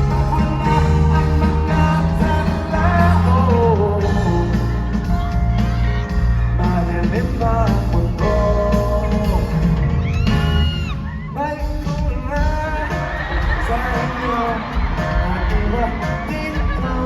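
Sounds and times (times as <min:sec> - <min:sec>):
live band playing pop-rock: 0:00.0 - 0:17.0
person singing: 0:00.0 - 0:17.0.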